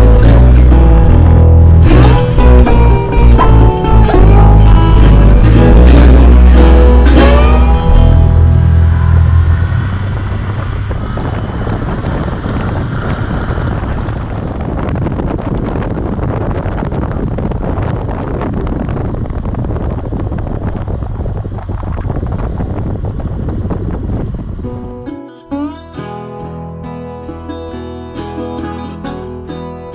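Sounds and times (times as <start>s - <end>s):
motorcycle engine running: 0.0s - 25.0s
wind rushing over microphone: 0.0s - 25.1s.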